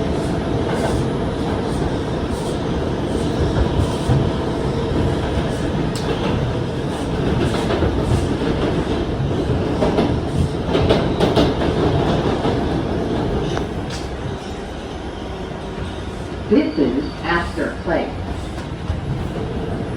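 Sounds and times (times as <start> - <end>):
subway train rumble: 0.0 - 19.9.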